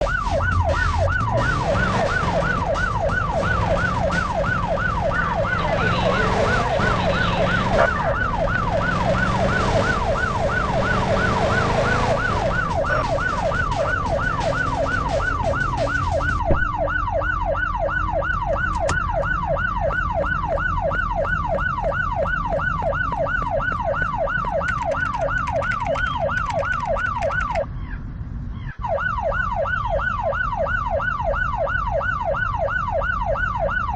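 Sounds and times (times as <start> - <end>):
electronic siren yelping: 0.0 - 33.9.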